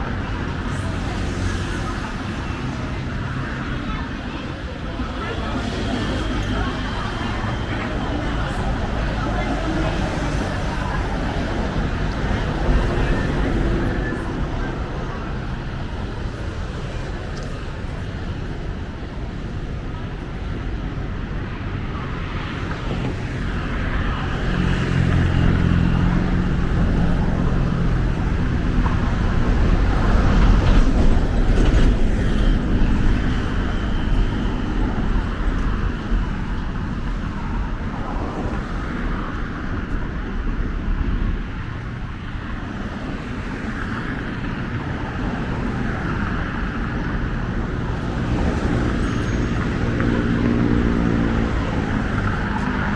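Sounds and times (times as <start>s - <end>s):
busy street traffic: 0.0s - 52.9s.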